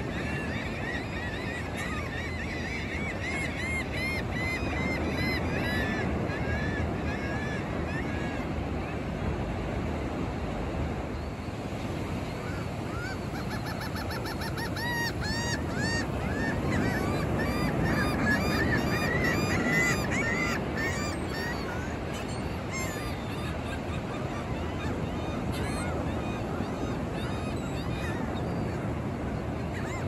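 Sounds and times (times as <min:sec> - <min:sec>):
gulls squawking: 0:00.0 - 0:08.5, 0:11.9 - 0:30.0.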